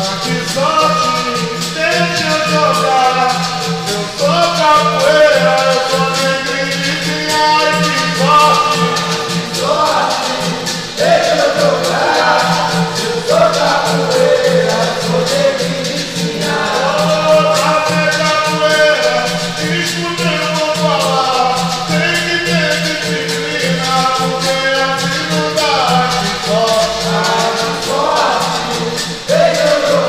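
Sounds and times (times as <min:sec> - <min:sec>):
berimbau: 0:00.0 - 0:30.0
hand clapping: 0:00.0 - 0:30.0
pandeiro: 0:00.0 - 0:30.0
voices singing: 0:00.0 - 0:30.0.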